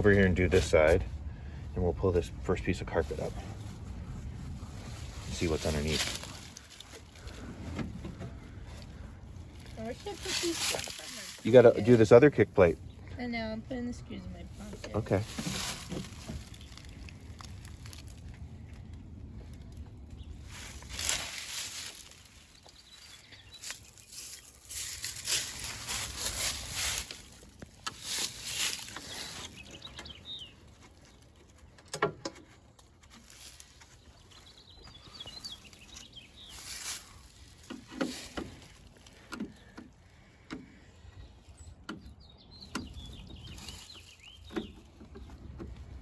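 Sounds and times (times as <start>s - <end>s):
birds chirping faintly: 5.3s - 46.0s.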